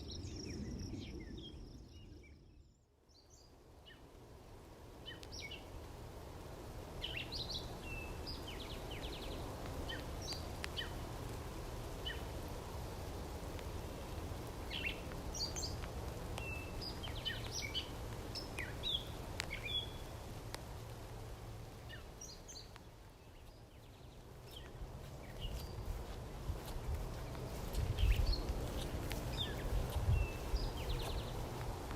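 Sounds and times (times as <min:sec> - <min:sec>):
low outdoor rumble: 0:00.0 - 0:31.9
small birds chirping: 0:00.0 - 0:31.9.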